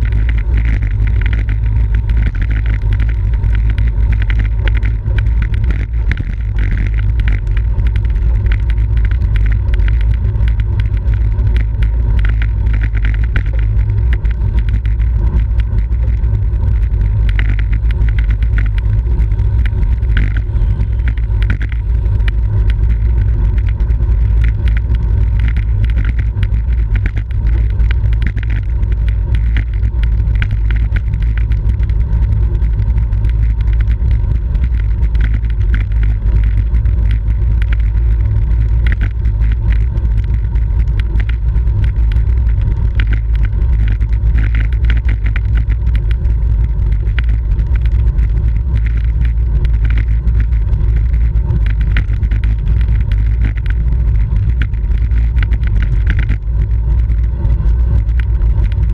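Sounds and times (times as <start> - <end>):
light ticks and rattles: 0.0 - 58.9
wind rumble on microphone: 0.0 - 58.9.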